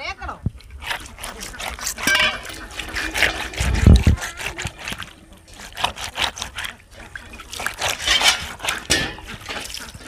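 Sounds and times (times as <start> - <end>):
fish scrubbed on wet concrete: 0.6 - 10.0.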